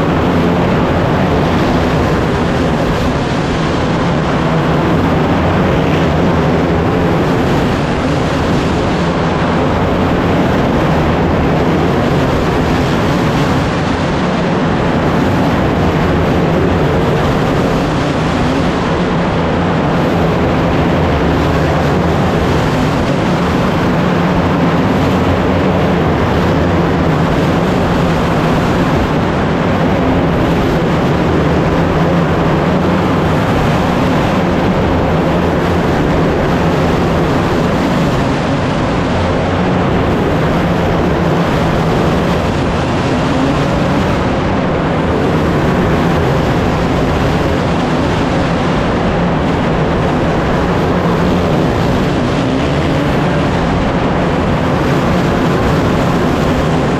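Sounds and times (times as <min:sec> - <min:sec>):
race car engines droning: 0:00.0 - 0:56.9.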